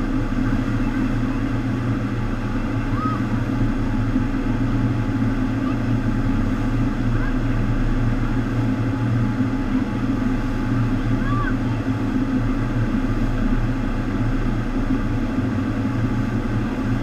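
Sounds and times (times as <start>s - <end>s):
pump hum: 0.0s - 17.0s.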